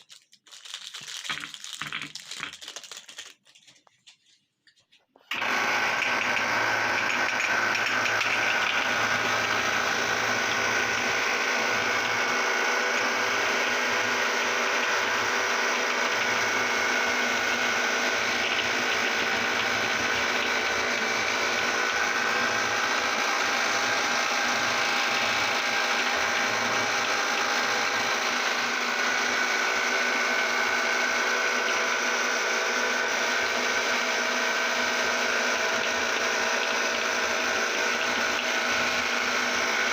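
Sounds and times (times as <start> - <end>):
meat grinder motor whining: 5.3 - 39.9.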